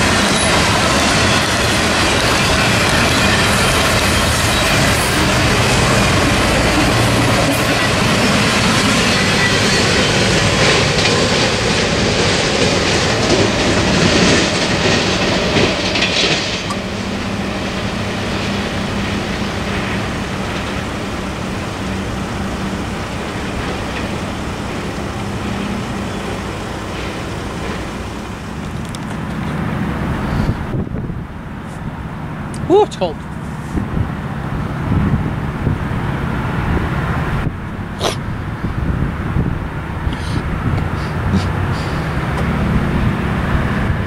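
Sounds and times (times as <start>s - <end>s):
train rolling past: 0.0s - 44.0s.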